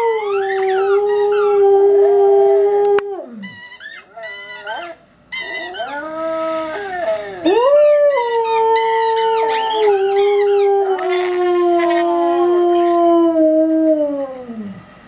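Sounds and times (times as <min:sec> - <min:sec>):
dog howling: 0:00.0 - 0:03.5, 0:05.7 - 0:14.8.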